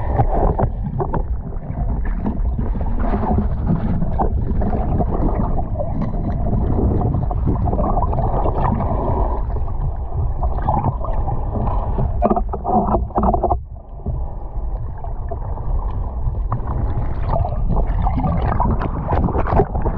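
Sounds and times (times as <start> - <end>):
muffled underwater sea sloshing: 0.0 - 19.9.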